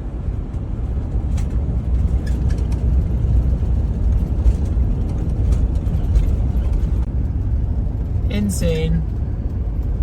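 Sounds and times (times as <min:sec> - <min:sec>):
van engine and tyres rumbling: 0:00.0 - 0:10.0.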